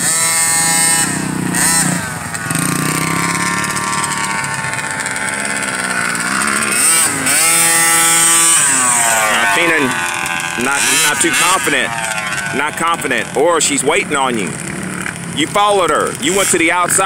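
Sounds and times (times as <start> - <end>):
minibike engines revving: 0.0 - 17.0.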